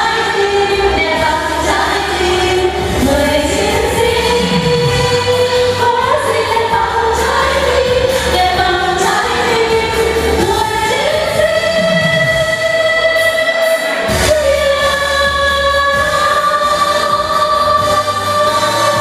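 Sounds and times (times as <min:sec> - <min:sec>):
backing track with bass: 0:00.0 - 0:19.0.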